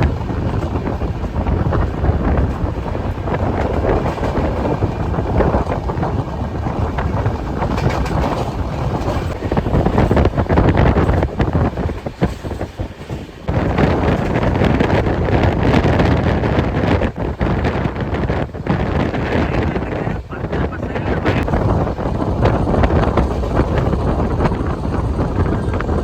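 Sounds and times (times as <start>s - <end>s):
train rumbling at speed: 0.0s - 26.0s
wind buffeting microphone: 0.0s - 26.0s.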